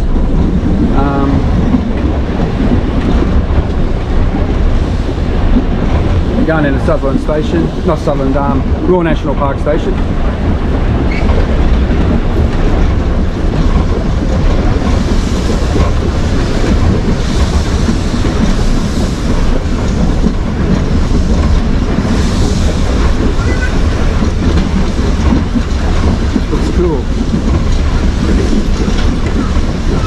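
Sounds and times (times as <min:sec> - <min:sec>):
tram wheels on rails: 0:00.0 - 0:30.0.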